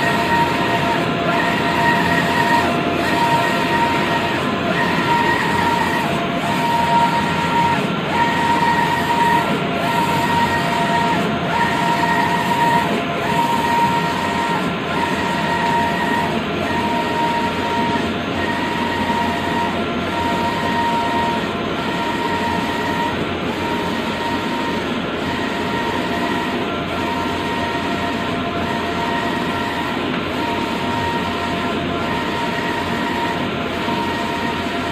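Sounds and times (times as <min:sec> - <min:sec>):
steady mechanical noise: 0:00.0 - 0:34.9.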